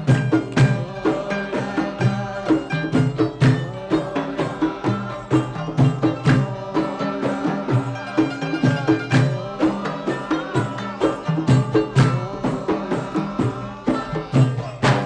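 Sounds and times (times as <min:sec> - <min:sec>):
frame drums beaten: 0:00.0 - 0:15.0
oud playing: 0:00.0 - 0:15.0
qanun playing: 0:00.0 - 0:15.0.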